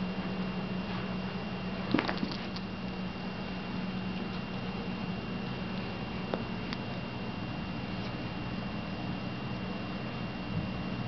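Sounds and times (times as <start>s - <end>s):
low hum: 0.0s - 11.0s
thin high whine: 0.0s - 11.0s.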